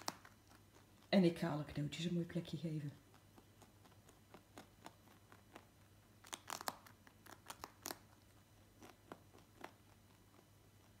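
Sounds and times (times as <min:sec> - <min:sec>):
rabbit crunching a treat: 0:00.0 - 0:11.0.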